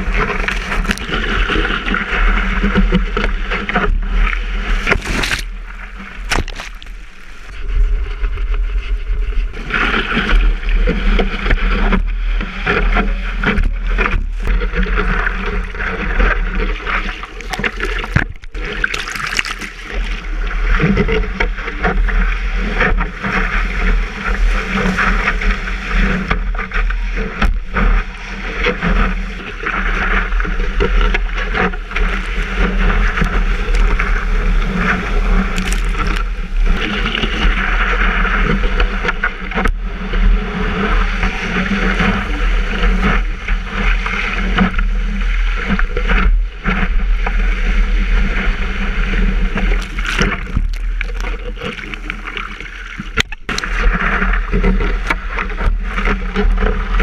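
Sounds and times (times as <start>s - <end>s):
steady low rumble: 0.0s - 57.0s
water rushing and splashing: 0.0s - 57.0s.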